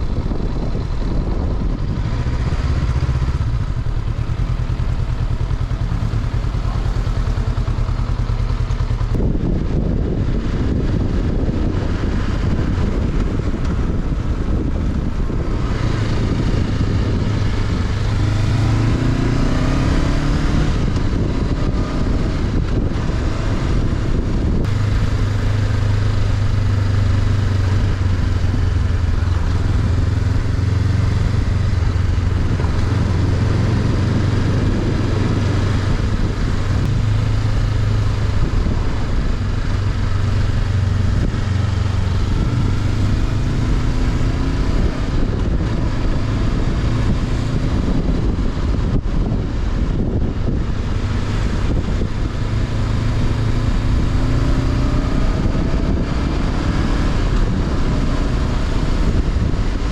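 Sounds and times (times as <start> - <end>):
wind rush: 0.0 - 6.4, 7.8 - 59.9
motorcycle engine running: 0.0 - 59.9.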